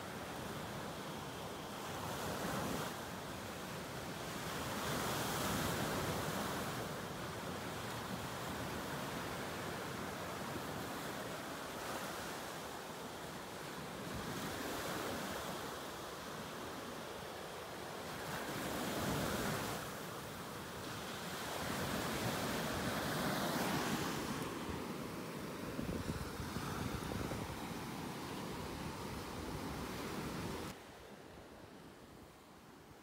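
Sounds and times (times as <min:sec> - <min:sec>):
ocean waves breaking on beach: 0:00.0 - 0:33.0.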